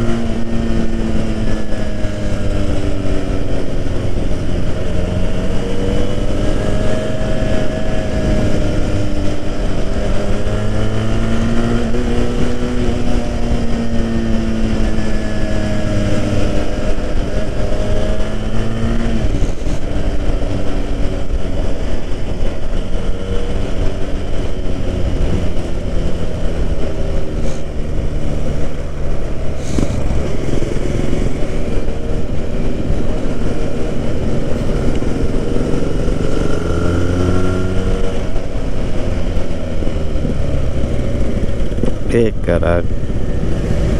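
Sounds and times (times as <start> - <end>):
motorcycle engine revving: 0.0 - 43.9
wind rumble on microphone: 0.0 - 43.9.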